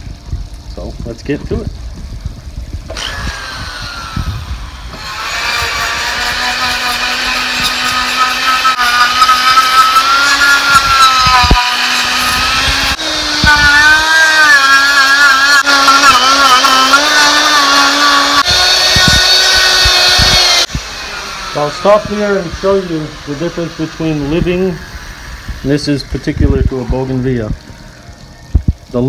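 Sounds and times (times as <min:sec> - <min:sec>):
die grinder cutting wood: 0:02.9 - 0:27.6.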